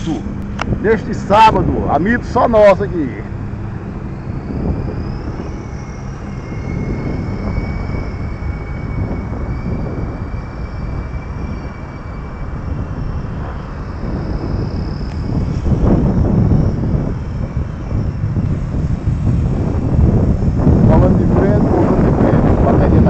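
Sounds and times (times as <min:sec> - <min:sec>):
model helicopter whine: 0:00.0 - 0:23.0.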